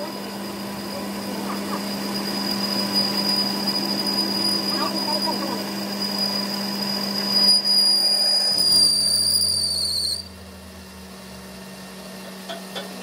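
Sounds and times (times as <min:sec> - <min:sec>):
high-pitched cutting squeal: 0:00.0 - 0:12.5
lathe motor hum: 0:00.0 - 0:13.0.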